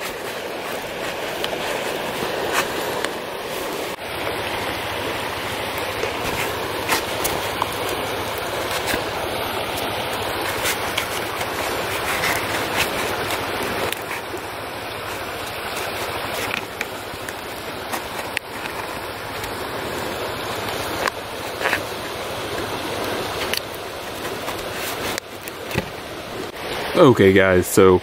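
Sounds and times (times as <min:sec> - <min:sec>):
birch bark crackling: 0:00.0 - 0:27.0
stream water rushing: 0:00.0 - 0:28.0.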